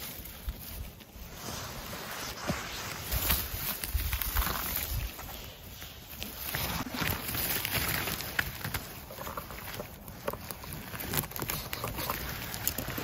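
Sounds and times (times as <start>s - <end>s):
rustling of moss and twigs: 0.0s - 13.0s.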